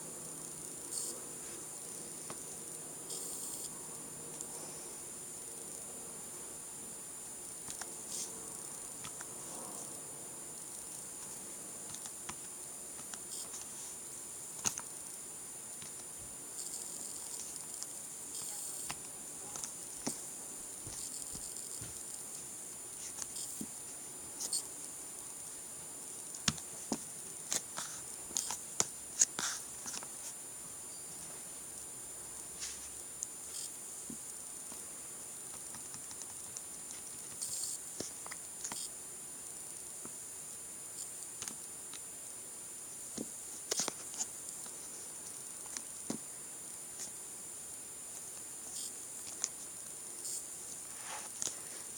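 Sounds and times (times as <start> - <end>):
faint high-pitched electronic whine: 0.0 - 51.9.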